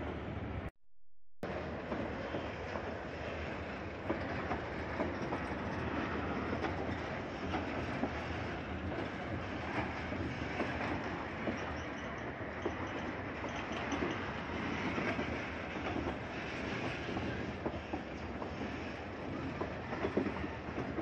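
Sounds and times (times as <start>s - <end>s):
freight train rolling: 0.0s - 0.7s, 1.5s - 21.0s.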